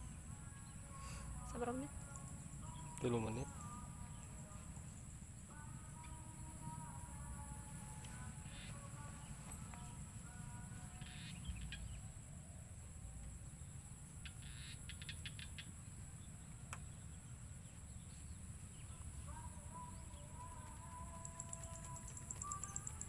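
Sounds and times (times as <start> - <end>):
faint bird chirping: 0.0 - 23.0.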